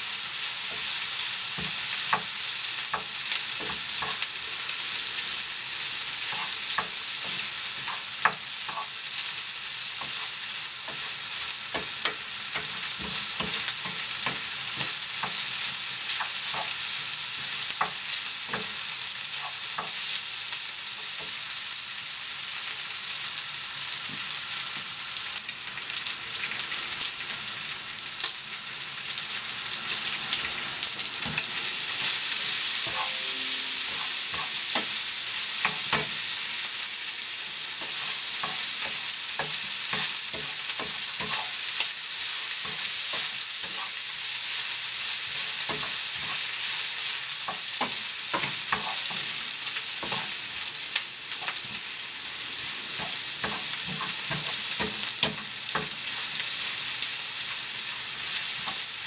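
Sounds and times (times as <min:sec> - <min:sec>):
onion and bacon sizzling: 0:00.0 - 0:59.0.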